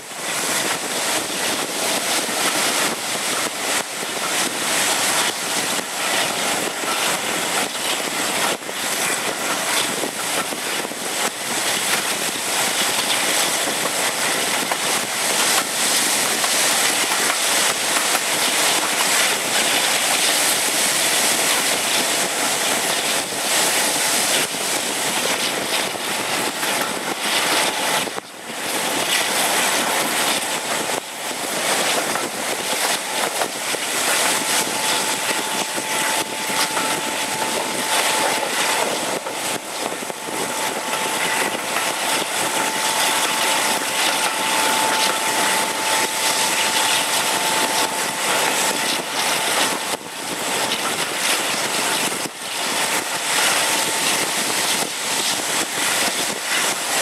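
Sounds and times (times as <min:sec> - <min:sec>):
passenger train running at speed: 0:00.0 - 0:57.0
wind rushing over microphone: 0:00.0 - 0:57.0.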